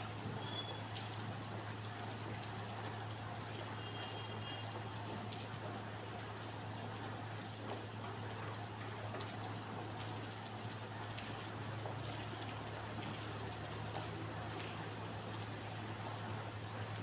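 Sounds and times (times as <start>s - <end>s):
rain drops ticking: 0.0s - 17.0s
steady rain hiss: 0.0s - 17.0s.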